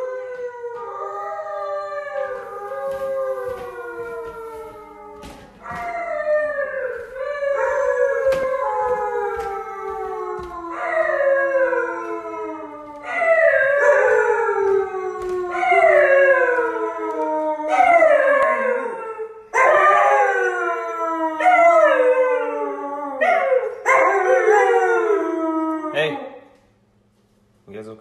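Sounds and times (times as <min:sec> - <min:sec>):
dogs howling: 0:00.0 - 0:26.5.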